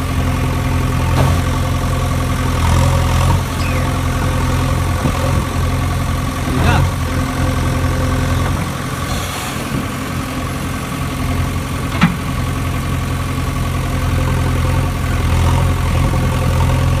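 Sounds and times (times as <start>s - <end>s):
low engine-like idling drone: 0.0s - 17.0s.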